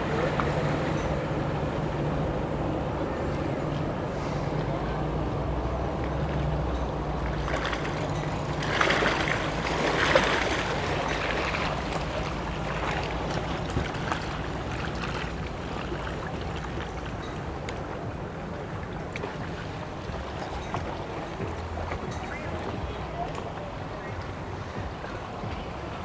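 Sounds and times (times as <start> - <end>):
boat engine running: 0.0 - 26.0
water splashing and sloshing: 0.0 - 26.0.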